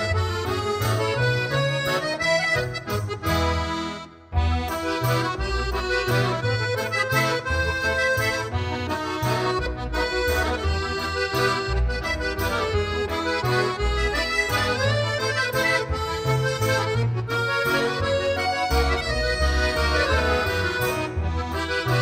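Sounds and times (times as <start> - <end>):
instrumental background music: 0.0 - 22.0.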